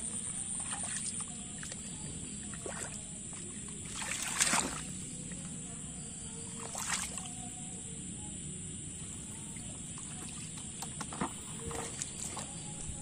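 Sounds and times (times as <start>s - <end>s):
muddy water splashing: 0.0s - 5.7s, 6.4s - 7.5s, 9.1s - 13.0s.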